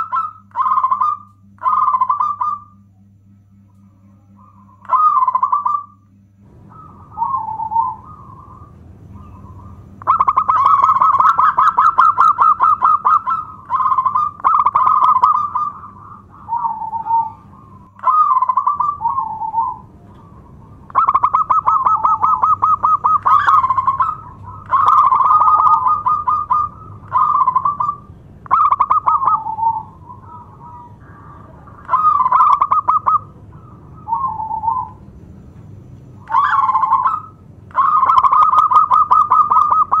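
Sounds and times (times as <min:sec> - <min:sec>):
dove cooing: 0:00.0 - 0:02.8, 0:04.0 - 0:35.4, 0:36.0 - 0:40.0.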